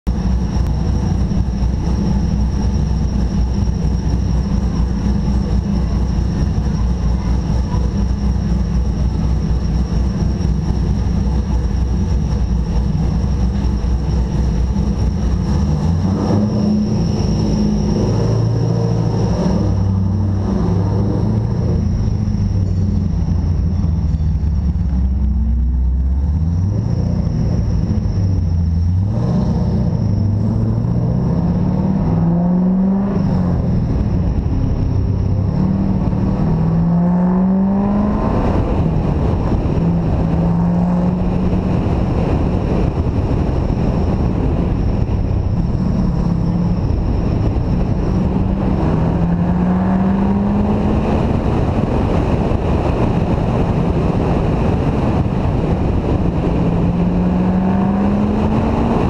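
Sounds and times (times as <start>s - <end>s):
car engine idling: 0.0s - 58.8s
car pulling away: 0.1s - 59.0s.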